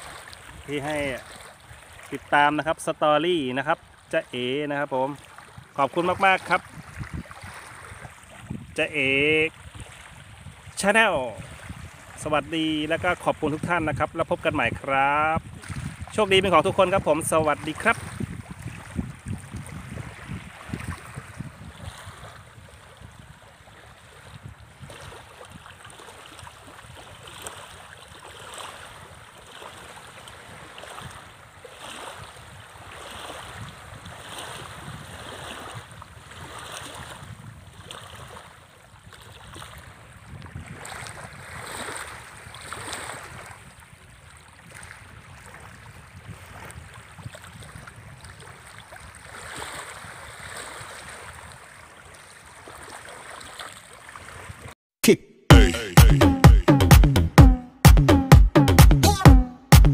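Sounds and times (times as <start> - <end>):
small waves lapping on shore: 0.0 - 54.8.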